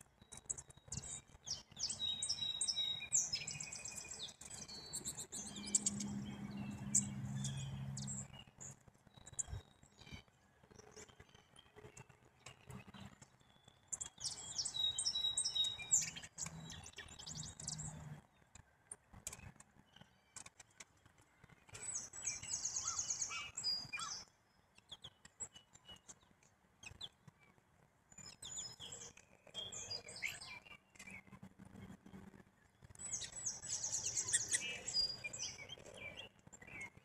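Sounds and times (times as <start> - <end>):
songbirds chirping and trilling: 0.0 - 37.0.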